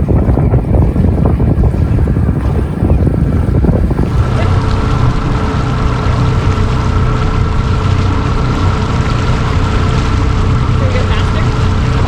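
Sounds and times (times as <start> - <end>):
motorboat engine running: 0.0 - 12.0
rushing water: 0.0 - 12.0
wind: 0.0 - 12.0.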